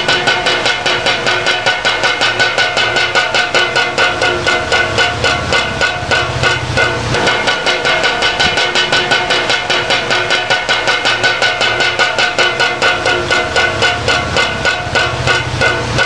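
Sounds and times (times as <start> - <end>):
windmill beaters rattling on can: 0.0 - 16.0.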